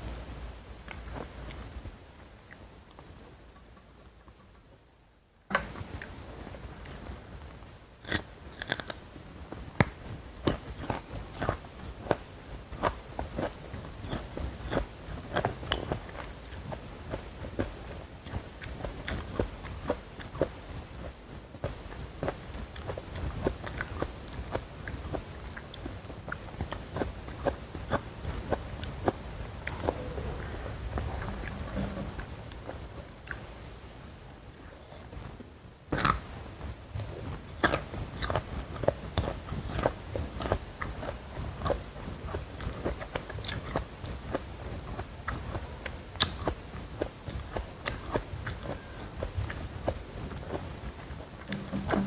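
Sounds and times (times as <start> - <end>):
chewing crunchy food: 8.0 - 52.0.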